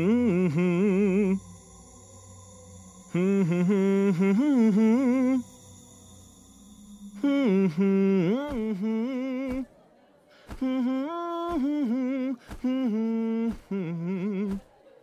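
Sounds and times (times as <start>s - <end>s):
man humming: 0.0s - 9.6s, 10.6s - 14.6s.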